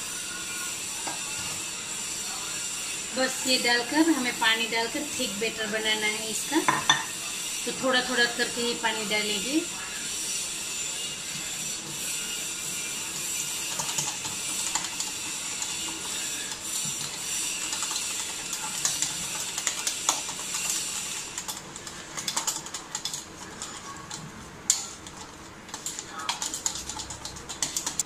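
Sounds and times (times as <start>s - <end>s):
whisk scraping in steel bowl: 2.8s - 28.0s.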